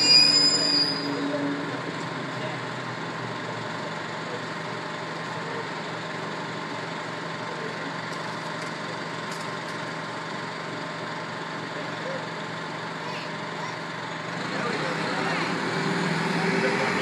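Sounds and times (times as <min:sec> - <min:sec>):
city street noise: 0:00.0 - 0:17.0.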